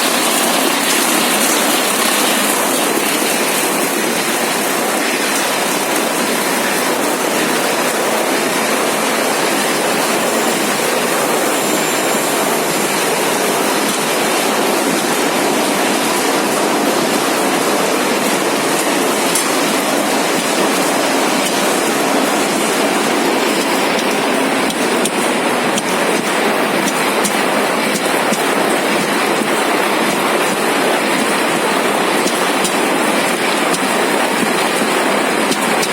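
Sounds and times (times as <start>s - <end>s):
die-cutting machine running: 0.0s - 35.9s.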